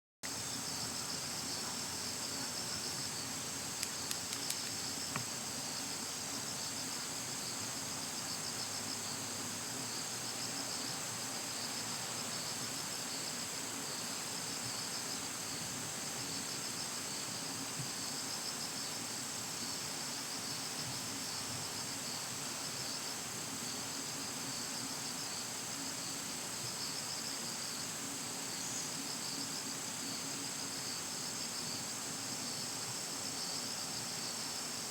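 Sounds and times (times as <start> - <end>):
insects chirring: 0.3 - 34.9.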